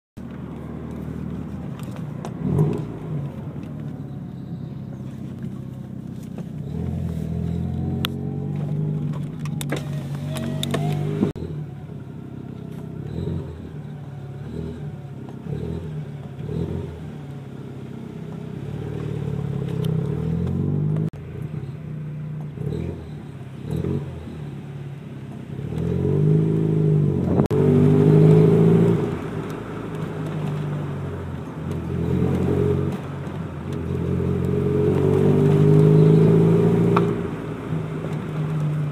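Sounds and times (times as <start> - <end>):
car engine idling and revving: 0.2 - 38.9.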